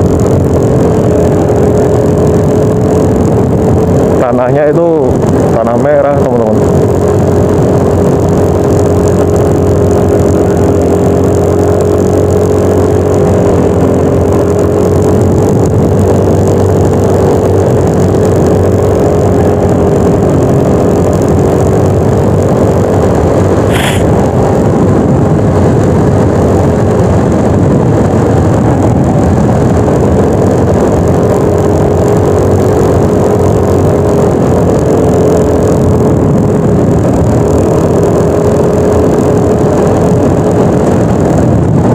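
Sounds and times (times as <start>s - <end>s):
rush of noise: 0.0s - 41.9s
scooter engine running: 0.0s - 41.9s.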